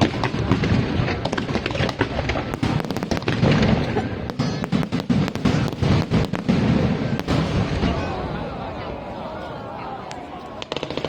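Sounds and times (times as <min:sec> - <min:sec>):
fireworks bangs and crackles: 0:00.0 - 0:09.1, 0:10.0 - 0:11.0.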